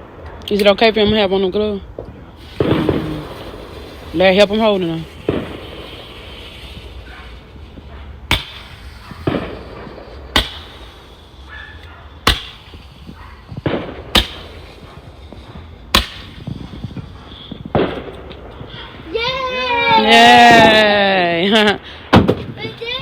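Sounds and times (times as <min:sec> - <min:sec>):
firework cracks: 0:01.9 - 0:21.2.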